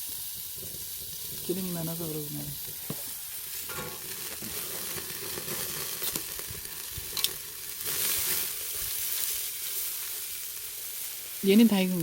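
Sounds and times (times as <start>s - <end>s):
fat crackling on coals: 0.0s - 12.0s
meat sizzling on coals: 0.0s - 12.0s.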